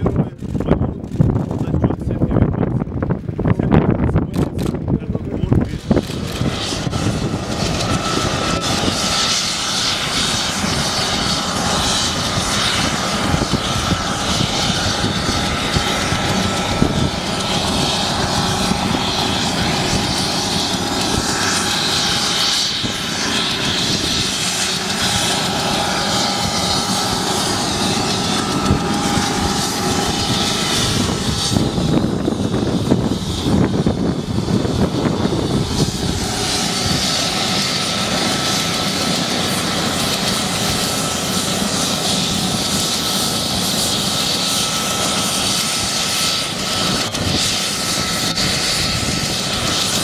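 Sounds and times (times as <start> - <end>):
turbine engine running: 0.0 - 50.0.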